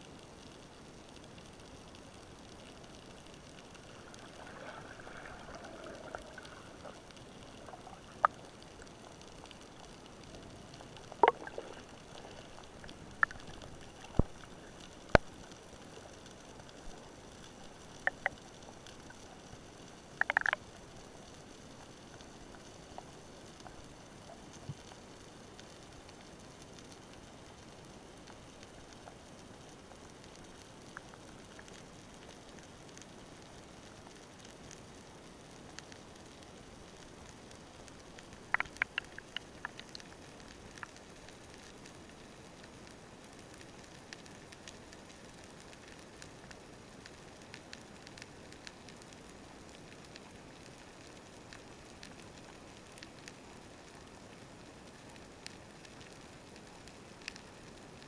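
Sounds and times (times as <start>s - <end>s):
underwater hiss with crackling clicks: 0.0s - 58.0s.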